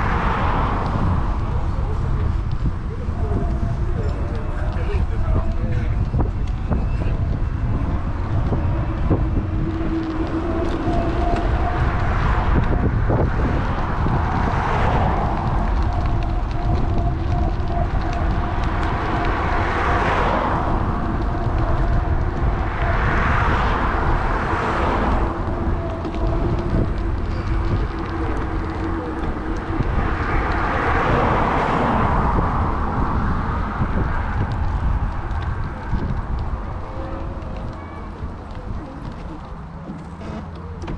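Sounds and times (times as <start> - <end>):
cars passing: 0.0 - 40.9
wind rumbling on microphone: 0.0 - 40.9.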